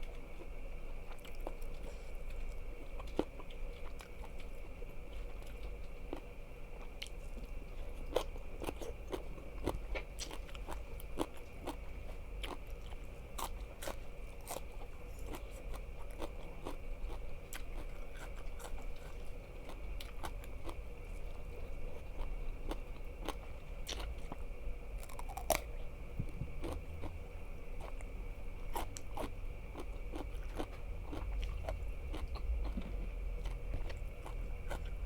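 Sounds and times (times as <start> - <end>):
chewing crunchy food: 0.0 - 35.0
faint steady hum: 0.0 - 35.0.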